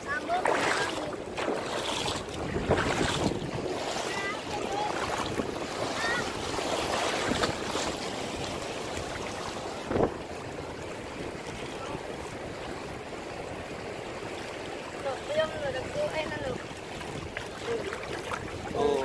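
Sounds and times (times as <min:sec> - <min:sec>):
waves breaking over rocks: 0:00.0 - 0:19.0.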